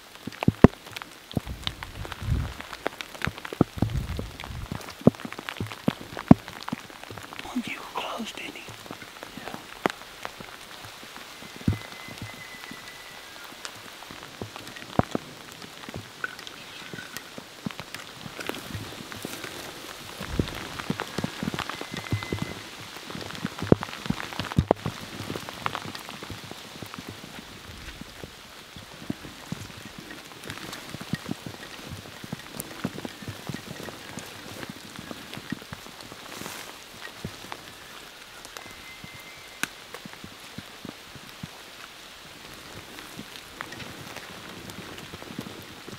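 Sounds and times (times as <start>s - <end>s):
pouring rain: 0.0s - 45.9s
raindrops ticking sharply: 0.0s - 45.9s.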